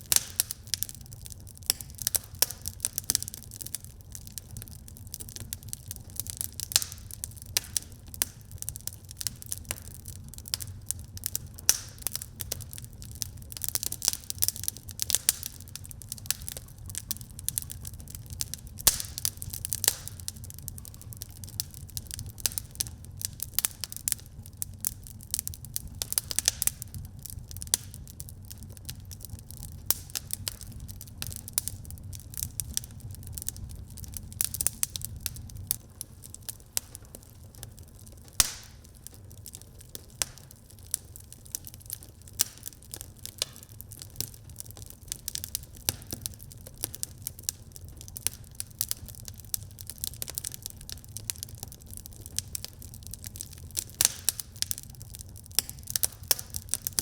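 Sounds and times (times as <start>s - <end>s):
fire crackling and popping: 0.0s - 57.0s
low steady fire rumble: 0.0s - 57.0s.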